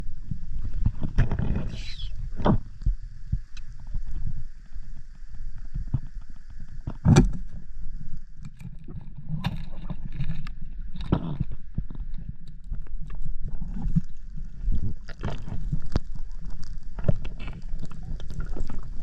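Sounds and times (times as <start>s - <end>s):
faint steady high hum: 0.0s - 19.0s
muffled underwater rumbling: 0.0s - 19.0s.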